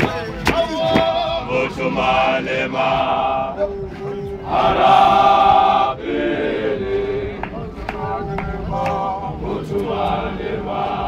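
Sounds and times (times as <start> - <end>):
men's choir chanting and singing: 0.0 - 11.0.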